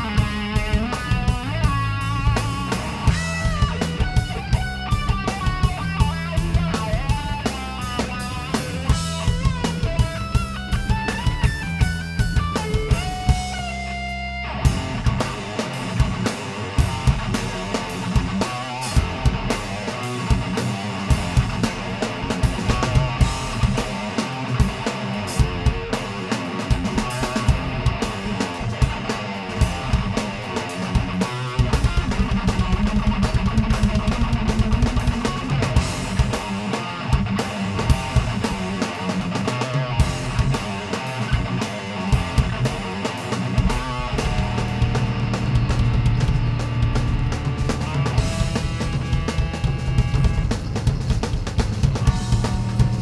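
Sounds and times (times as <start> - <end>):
drum kit: 0.0 - 53.0
electric guitar: 0.0 - 53.0.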